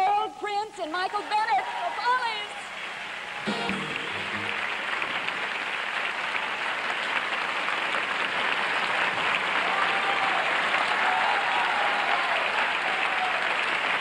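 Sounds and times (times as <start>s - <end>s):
large audience applauding: 1.4s - 14.0s.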